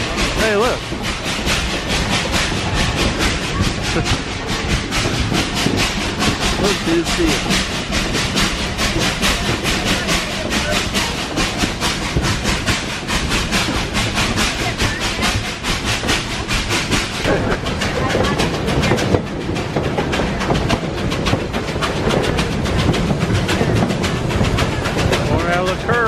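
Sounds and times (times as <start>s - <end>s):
train running along track: 0.0s - 26.0s.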